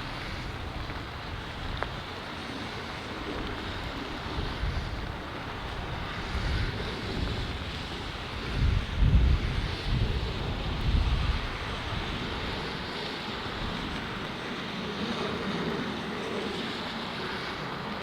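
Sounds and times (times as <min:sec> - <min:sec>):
jet engine rushing: 0:00.0 - 0:18.0
wind buffeting microphone: 0:00.0 - 0:18.0.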